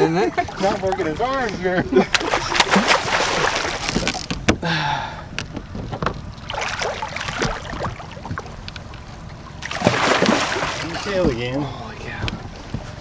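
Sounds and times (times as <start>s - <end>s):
water splashing against boat: 0.1s - 13.0s.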